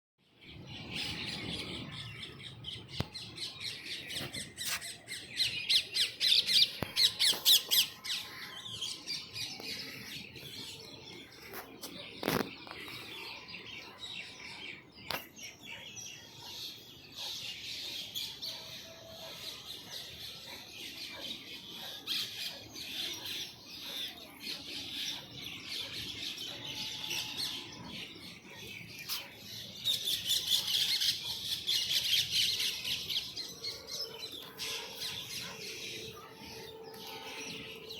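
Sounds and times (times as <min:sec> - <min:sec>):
birds chirping and calling: 0:00.3 - 0:37.9.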